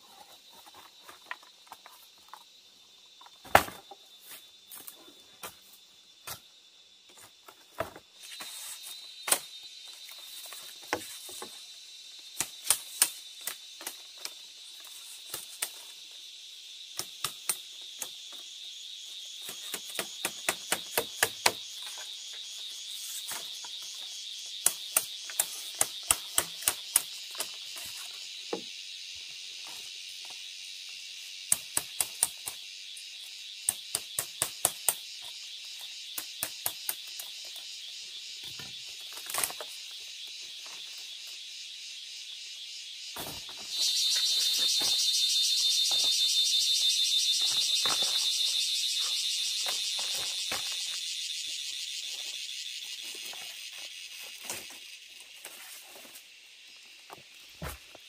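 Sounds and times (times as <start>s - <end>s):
insect chirring: 0.0s - 58.0s.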